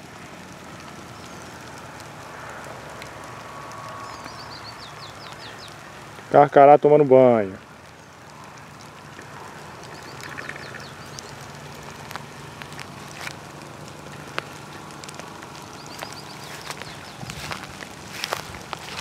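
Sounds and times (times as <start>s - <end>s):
light rain on dry leaves: 0.0s - 19.0s.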